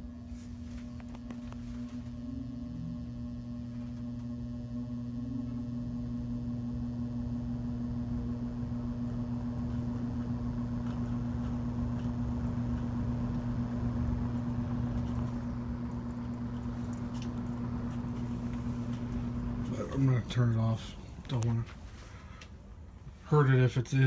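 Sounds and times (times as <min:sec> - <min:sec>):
electric fan motor hum: 0:00.0 - 0:24.0.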